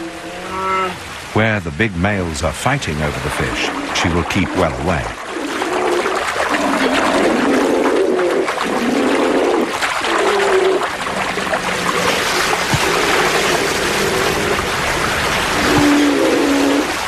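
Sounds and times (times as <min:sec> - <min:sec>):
rushing river water: 0:00.0 - 0:17.0.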